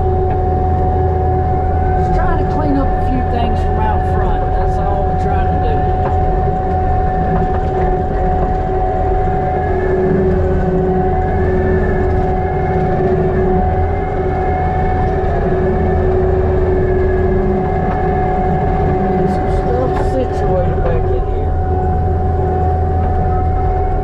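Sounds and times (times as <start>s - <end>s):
diesel engine running: 0.0s - 24.0s
steady whine: 0.0s - 24.0s.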